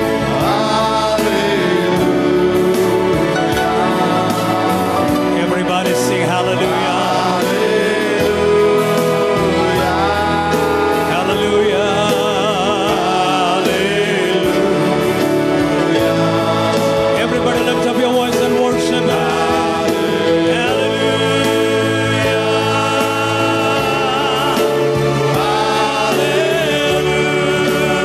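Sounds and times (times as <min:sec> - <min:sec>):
instrumental backing with steady beat: 0:00.0 - 0:28.0
man singing into a microphone: 0:00.0 - 0:28.0.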